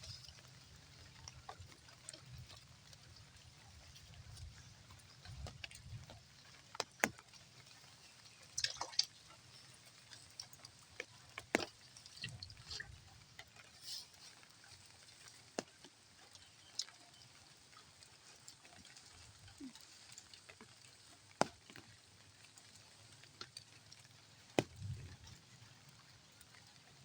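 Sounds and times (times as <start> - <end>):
water splashes and drips: 0.0 - 27.0.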